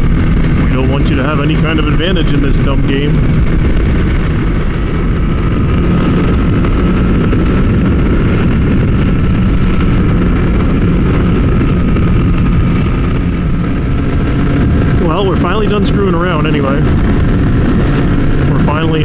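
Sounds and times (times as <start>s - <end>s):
motorcycle engine cruising: 0.0s - 19.0s
wind noise: 0.0s - 19.0s.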